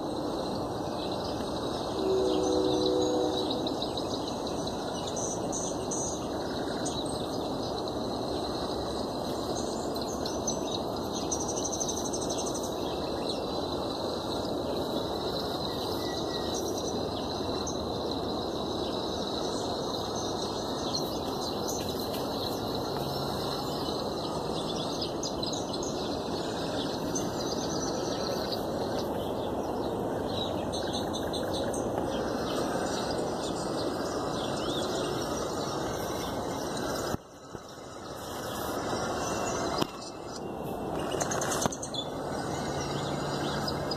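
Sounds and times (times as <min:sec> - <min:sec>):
low rumble and hiss: 0:00.0 - 0:43.9
songbirds chirping: 0:00.0 - 0:43.9.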